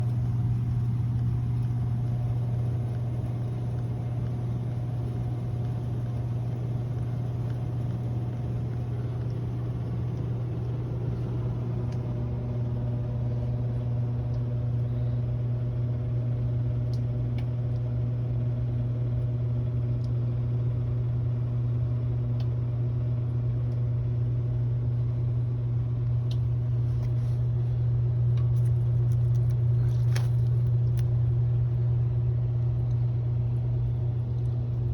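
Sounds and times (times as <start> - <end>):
hvac unit humming: 0.0 - 34.9.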